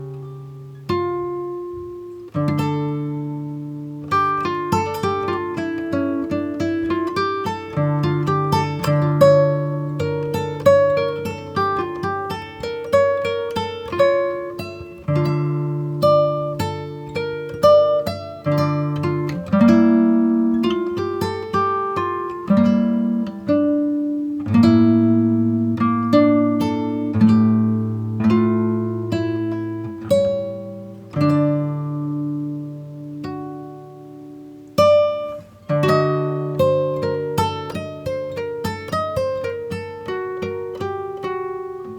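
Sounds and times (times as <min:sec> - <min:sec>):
acoustic guitar playing: 0:00.0 - 0:41.9.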